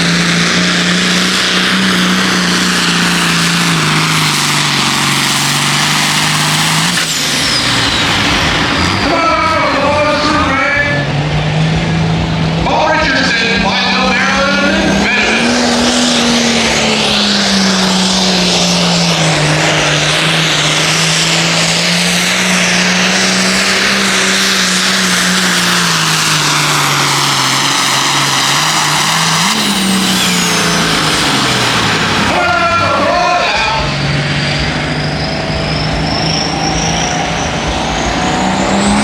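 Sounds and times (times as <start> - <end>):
tractor diesel engine at full throttle: 0.0 - 39.0.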